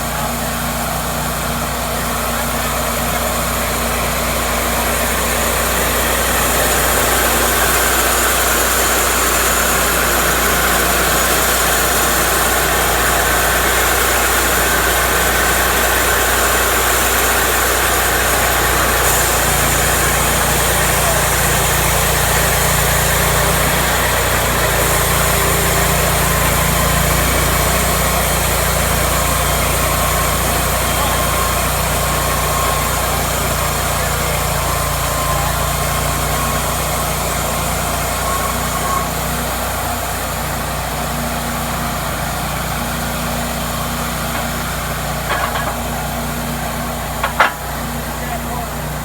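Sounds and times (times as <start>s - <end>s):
sawmill engine idling: 0.0s - 49.0s.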